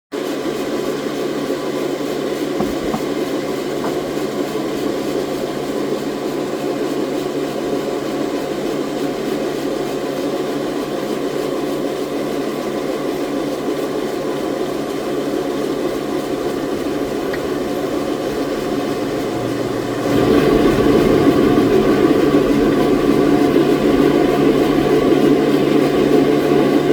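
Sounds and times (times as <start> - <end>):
sawmill machinery drone: 0.6 - 26.9.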